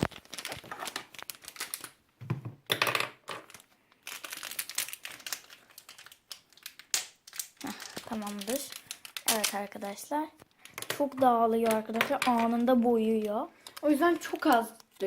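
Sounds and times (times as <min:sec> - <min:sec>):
plastic packaging crinkling: 0:00.0 - 0:02.1, 0:03.4 - 0:15.0.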